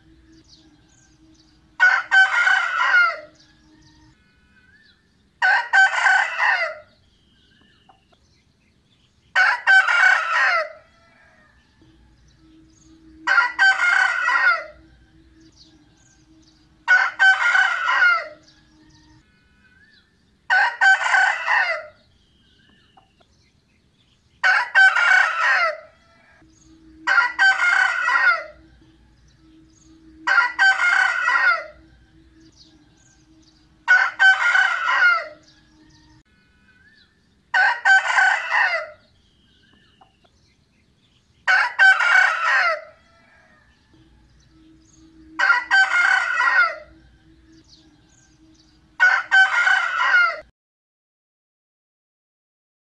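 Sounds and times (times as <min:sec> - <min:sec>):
rooster crowing: 0:00.0 - 0:07.0, 0:09.3 - 0:22.1, 0:24.4 - 0:39.1, 0:41.4 - 0:50.5.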